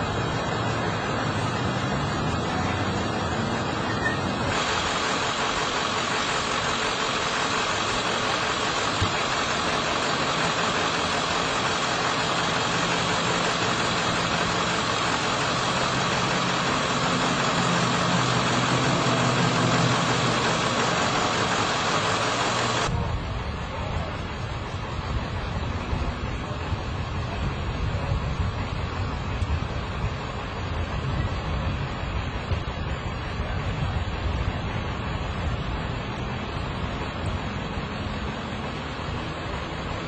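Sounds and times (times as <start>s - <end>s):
dense steady hiss: 0.0s - 40.0s
vehicle engine idling: 0.0s - 40.0s.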